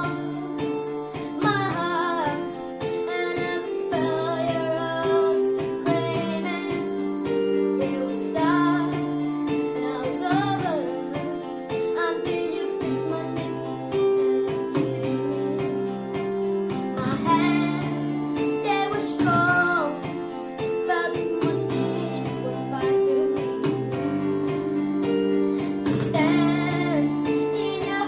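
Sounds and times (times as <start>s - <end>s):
high voice singing pop ballad: 0.0s - 28.0s
instrumental backing: 0.0s - 28.0s.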